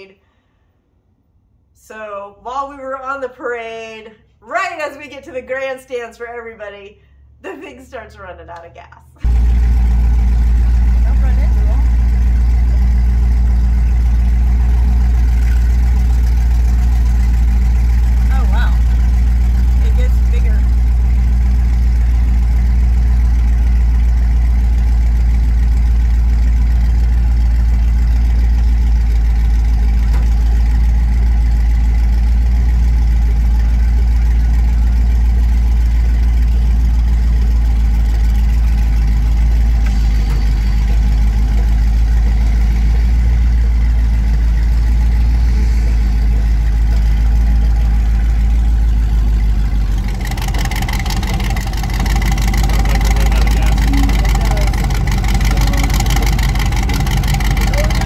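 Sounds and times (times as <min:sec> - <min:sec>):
truck engine droning: 0:01.9 - 0:58.0.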